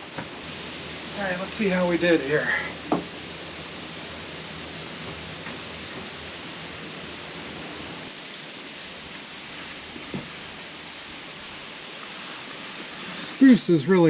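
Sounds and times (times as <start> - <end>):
faint high insect chirp: 0.0 - 13.8.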